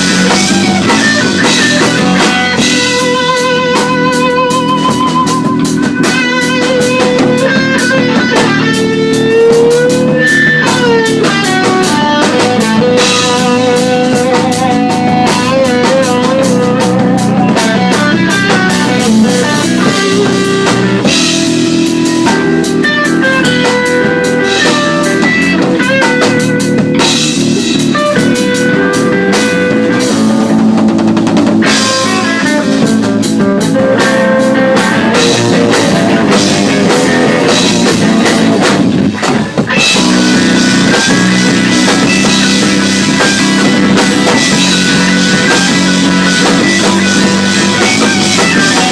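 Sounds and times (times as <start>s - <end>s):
drum kit: 0.0s - 48.9s
lead guitar with vibrato: 0.0s - 48.9s.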